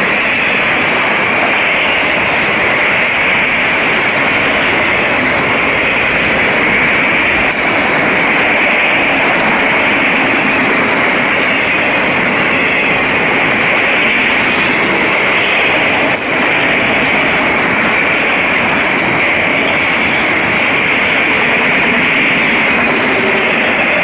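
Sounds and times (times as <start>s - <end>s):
freight train wheels rolling on rails: 0.0s - 24.0s.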